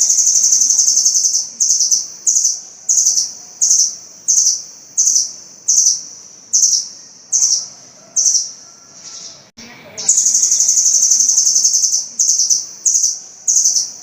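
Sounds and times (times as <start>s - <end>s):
songbird high rapid trill: 0.0s - 14.0s.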